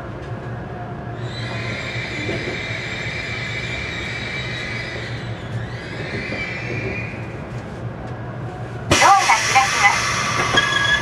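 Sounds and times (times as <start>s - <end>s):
high train whine: 0.0s - 11.0s
train running rumble: 0.0s - 11.0s.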